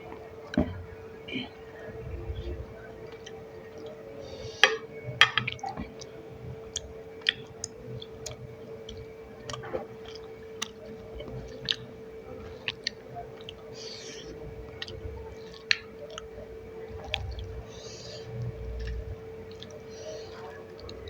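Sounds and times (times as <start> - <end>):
close chewing and mouth sounds: 0.0 - 21.0
faint steady hum: 0.0 - 21.0.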